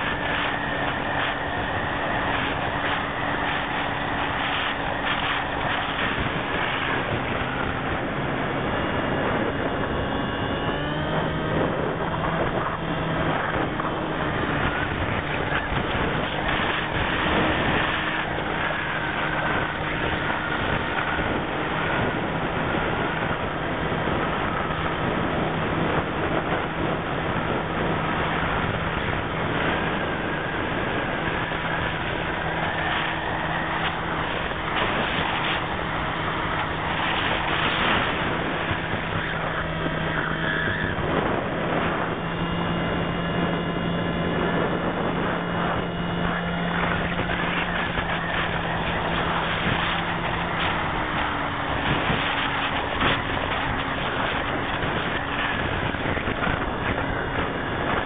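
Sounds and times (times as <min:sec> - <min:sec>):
model aircraft motor droning: 0:00.0 - 0:58.0
wind rush: 0:00.0 - 0:58.0.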